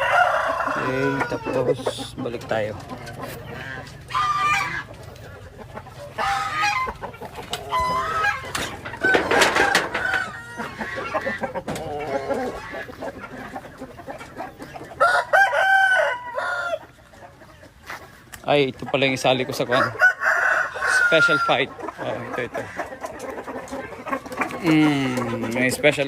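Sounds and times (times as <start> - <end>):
roosters crowing: 0.0 - 26.0.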